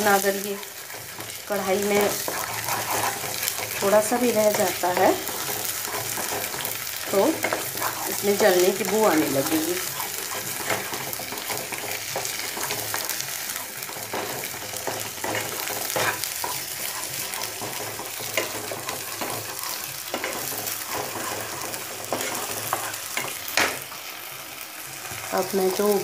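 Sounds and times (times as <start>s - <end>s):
spinach puree sizzling in oil: 0.0s - 26.0s
wooden spatula scraping: 0.6s - 23.6s.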